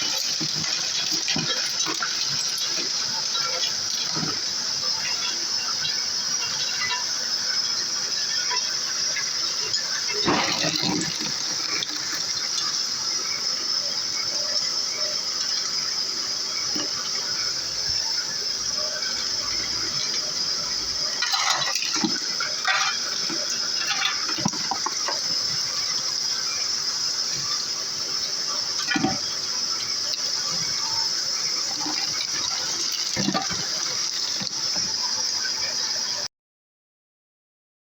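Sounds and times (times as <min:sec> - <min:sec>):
flowing water: 0:00.0 - 0:36.3
ice machine running: 0:00.0 - 0:36.3.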